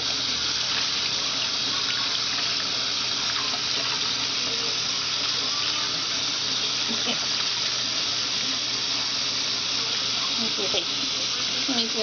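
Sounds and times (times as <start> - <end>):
faucet running into water-filled pot: 0.0 - 12.0.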